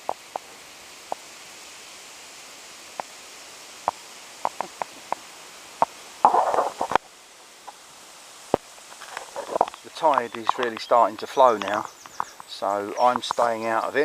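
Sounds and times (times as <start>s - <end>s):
steady water hiss: 0.0s - 14.0s
water splashing: 0.0s - 14.0s.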